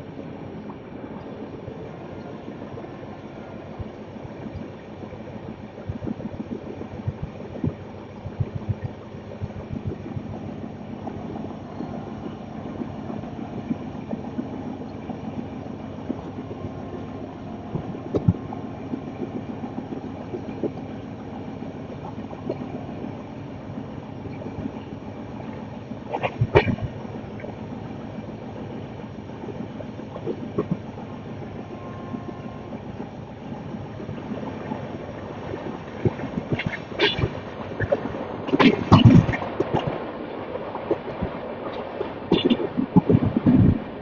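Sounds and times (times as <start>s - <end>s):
train rumbling on track: 0.0s - 44.0s.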